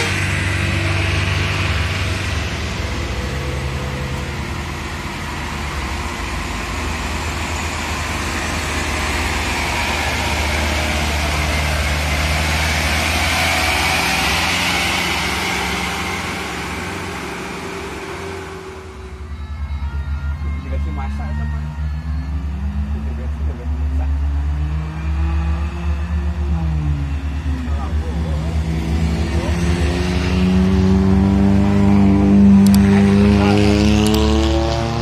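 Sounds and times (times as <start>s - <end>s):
dump truck diesel engine passing: 0.0s - 35.0s.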